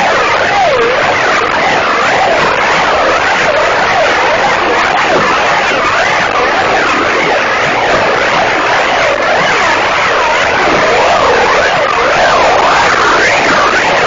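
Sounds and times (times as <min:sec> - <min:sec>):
overlapping swooping whines: 0:00.0 - 0:14.0.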